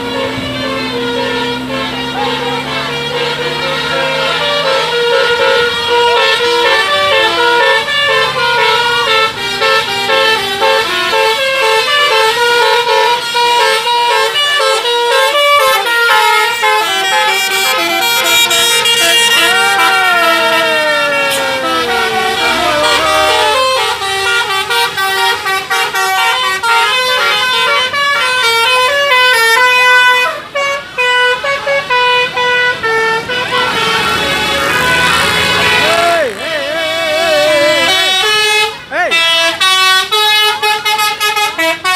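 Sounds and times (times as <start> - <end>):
musical vehicle horns playing tunes: 0.0 - 41.9.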